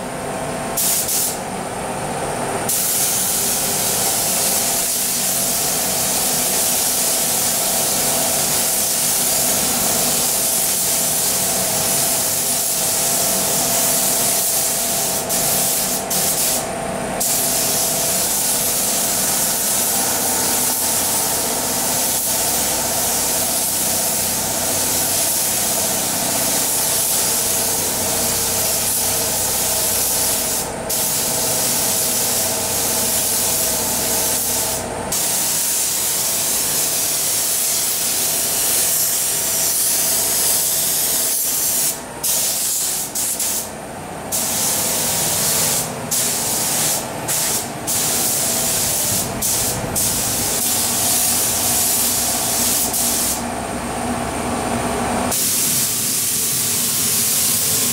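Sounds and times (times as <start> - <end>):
spray gun hissing: 0.8 - 1.4, 2.7 - 53.4, 55.3 - 57.9.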